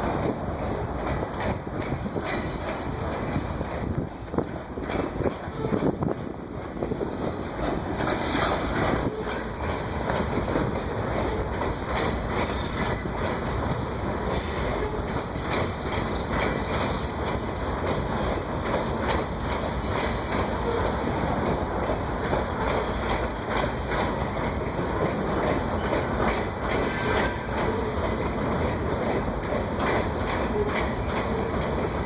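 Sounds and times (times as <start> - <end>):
freight train rumble: 0.0 - 32.0
wheel clacks over rail joints: 0.0 - 32.0.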